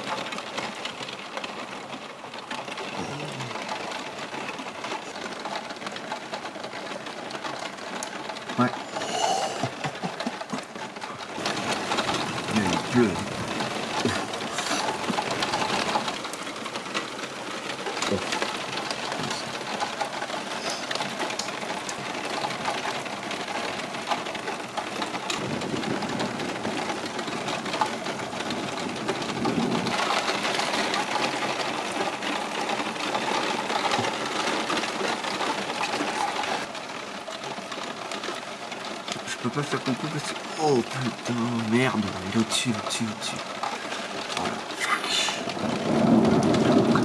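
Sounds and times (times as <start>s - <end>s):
heavy rain on a hard surface: 0.0s - 47.0s.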